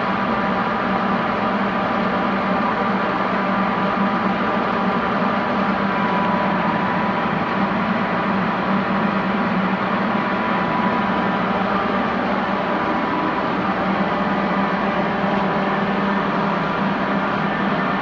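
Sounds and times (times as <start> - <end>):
boring mill machine hum: 0.4 - 18.0
faint high whine: 3.0 - 18.0.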